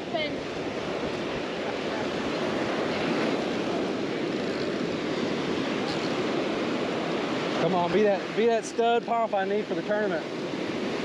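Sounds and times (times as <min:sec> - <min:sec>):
surf breaking on beach: 0:00.0 - 0:11.0.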